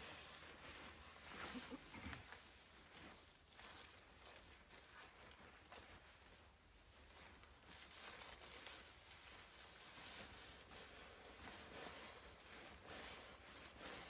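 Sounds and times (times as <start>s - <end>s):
faint background hiss: 0.0s - 14.0s
soft ticks and rustles: 0.0s - 14.0s.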